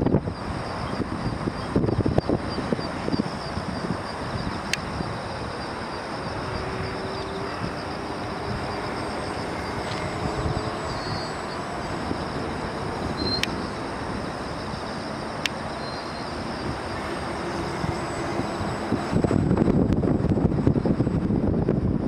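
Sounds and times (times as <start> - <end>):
model plane motor whine: 0.0 - 22.0
steady rushing noise: 0.0 - 22.0.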